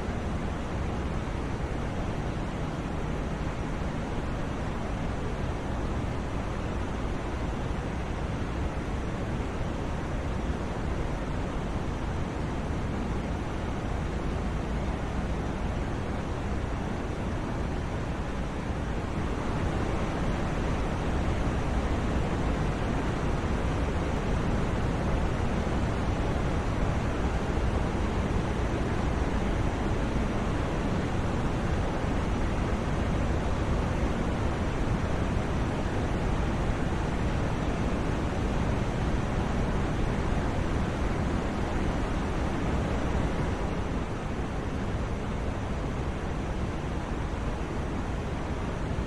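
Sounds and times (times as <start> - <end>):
white noise: 0.0 - 49.0.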